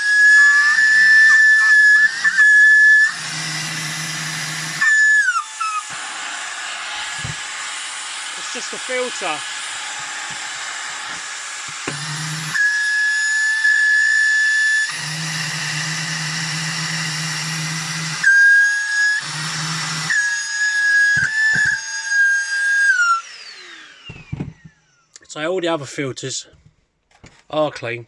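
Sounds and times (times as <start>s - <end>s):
stick vacuum motor whine: 0.0s - 25.2s.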